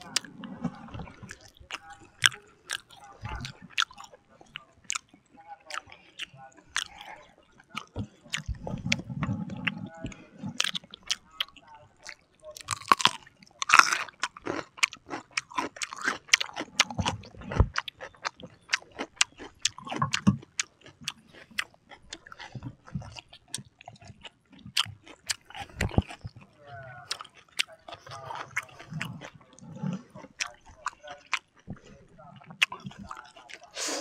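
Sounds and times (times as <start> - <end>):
chewing and crunching: 0.0 - 34.0
wet mouth noises: 0.0 - 34.0.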